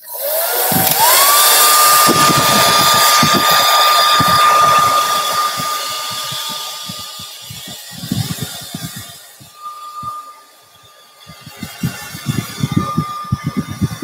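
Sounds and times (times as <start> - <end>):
hot-air blower motor whine: 0.0 - 14.0
rush of air: 0.6 - 14.0.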